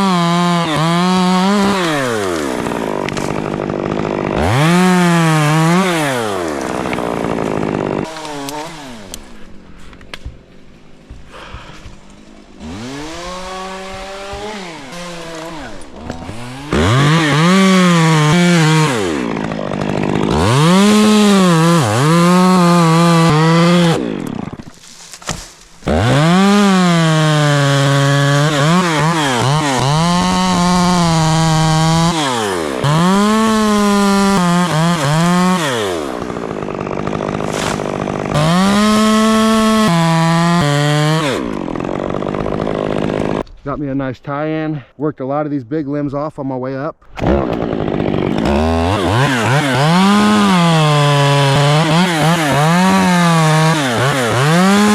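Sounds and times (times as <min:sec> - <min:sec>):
chainsaw revving while cutting wood: 0:00.0 - 0:09.3, 0:12.5 - 0:24.7, 0:25.8 - 0:43.4, 0:47.2 - 0:54.9.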